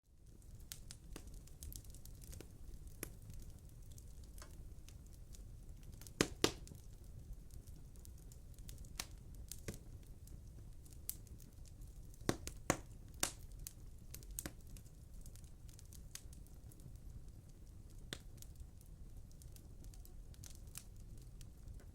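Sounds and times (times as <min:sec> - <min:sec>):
wood fire crackling: 0:00.1 - 0:21.9.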